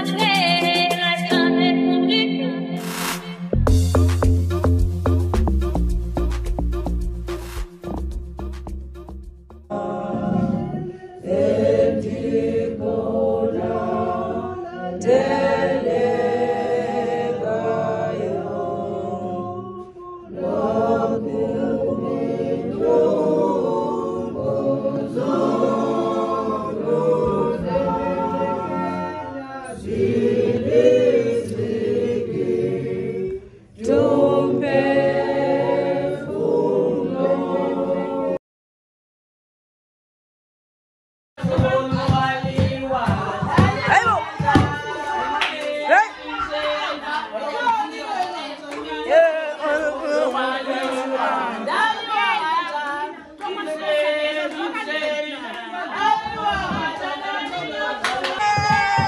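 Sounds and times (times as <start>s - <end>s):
group singing a cappella: 0.0s - 1.6s, 9.7s - 38.4s, 41.4s - 59.0s.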